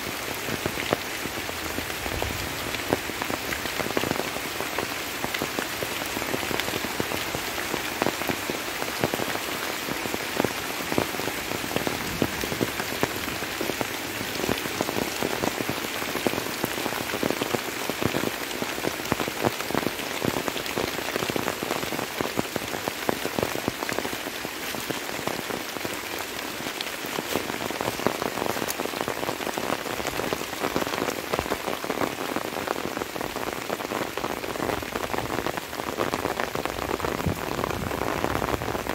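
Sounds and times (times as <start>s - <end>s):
light rain hissing: 0.0s - 38.9s.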